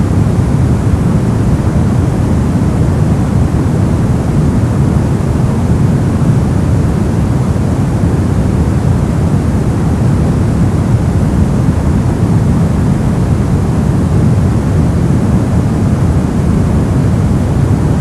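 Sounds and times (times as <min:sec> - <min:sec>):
deep rumbling hiss: 0:00.0 - 0:18.0.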